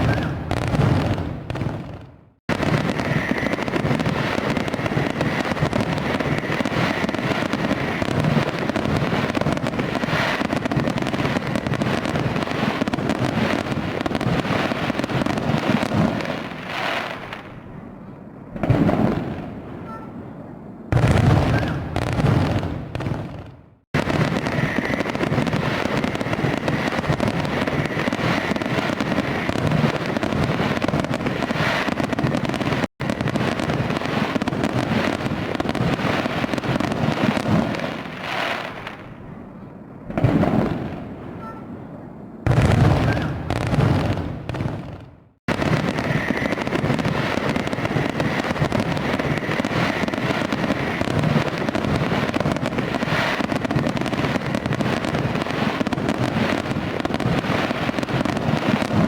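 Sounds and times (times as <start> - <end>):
fireworks crackling and popping: 0.0 - 17.7, 18.5 - 19.8, 20.9 - 39.2, 40.1 - 41.5, 42.5 - 59.0
loud firework bursts: 0.0 - 17.7, 18.5 - 20.3, 20.9 - 39.2, 40.1 - 41.8, 42.4 - 59.0.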